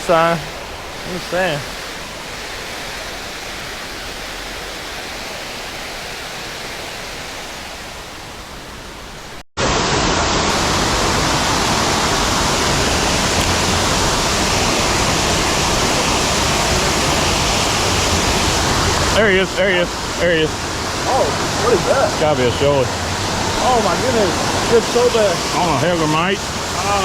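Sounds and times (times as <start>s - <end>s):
water rushing over spillway: 0.0s - 27.0s.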